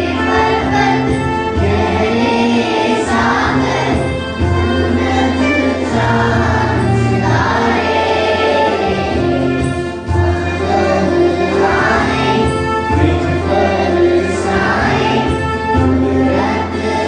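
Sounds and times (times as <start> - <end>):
girls singing through pa: 0.0 - 9.6, 10.4 - 17.0.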